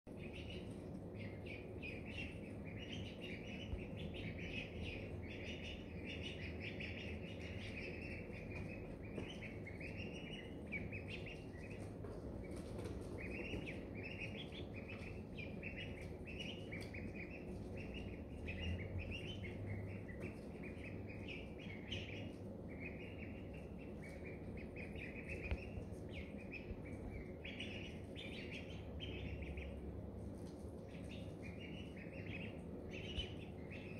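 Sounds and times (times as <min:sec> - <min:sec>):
ducklings peeping: 0:00.1 - 0:33.9.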